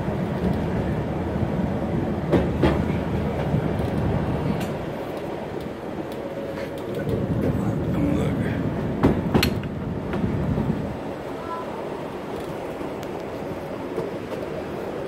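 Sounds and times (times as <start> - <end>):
train carriage rumbling on track: 0.0 - 15.0.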